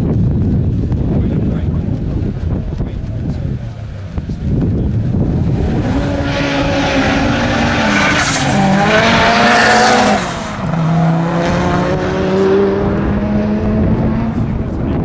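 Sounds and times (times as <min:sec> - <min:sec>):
car engine accelerating hard: 0:01.8 - 0:15.0.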